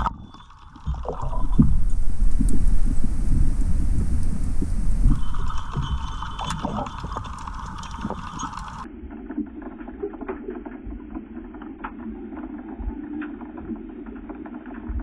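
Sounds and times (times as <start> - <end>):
underwater rumble of moving water: 0.0 - 14.8
underwater clicks and crackles: 0.0 - 15.0.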